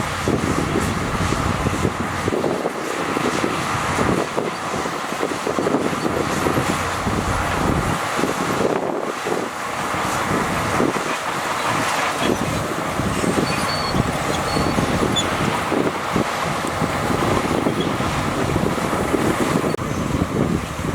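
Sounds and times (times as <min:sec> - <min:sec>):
diesel machinery rattling: 0:00.0 - 0:20.9.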